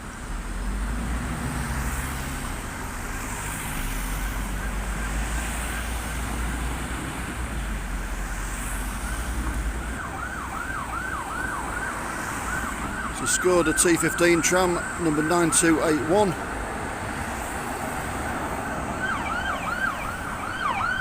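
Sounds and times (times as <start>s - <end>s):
city street traffic: 0.0s - 21.0s
emergency vehicle siren wailing: 1.3s - 21.0s.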